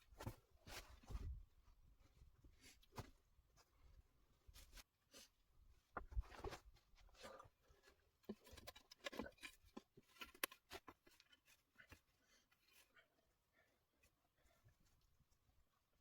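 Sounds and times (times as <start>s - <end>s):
faint small clicks and rustles: 2.0s - 16.0s.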